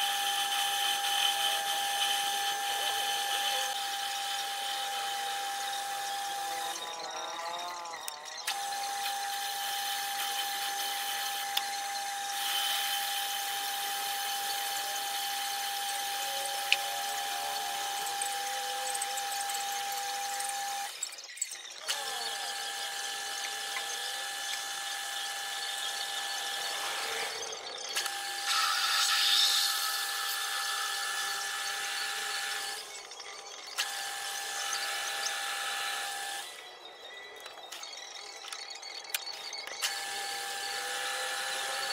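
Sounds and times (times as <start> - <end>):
metal lathe whining: 0.0 - 41.9.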